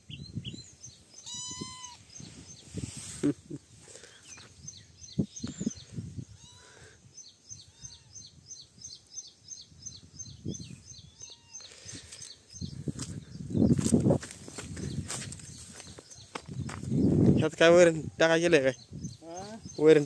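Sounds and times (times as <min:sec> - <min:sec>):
small bird chirping: 0:00.0 - 0:17.5, 0:18.4 - 0:20.0.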